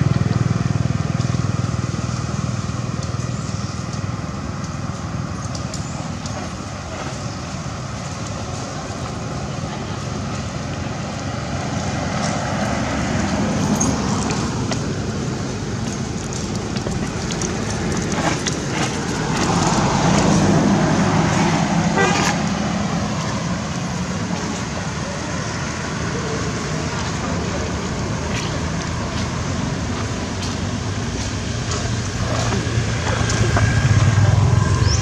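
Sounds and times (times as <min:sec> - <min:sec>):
vehicle engine hum: 0:00.0 - 0:35.0.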